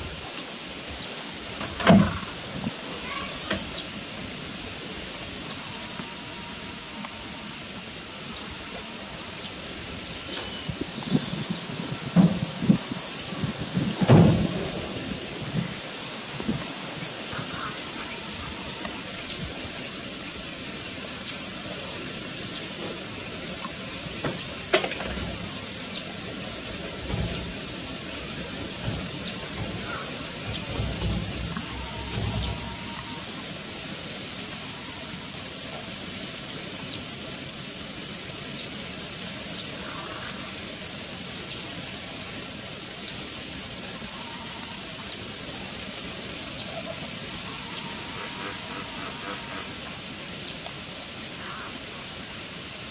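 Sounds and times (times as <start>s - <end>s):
cicadas droning: 0.0s - 52.9s.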